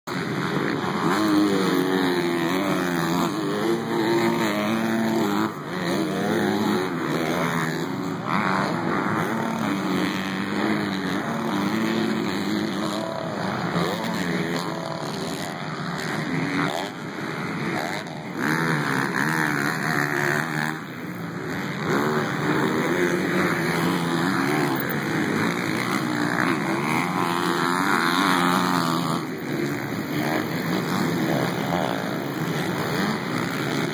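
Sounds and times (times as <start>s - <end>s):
dirt bike engines racing: 0.1s - 33.9s.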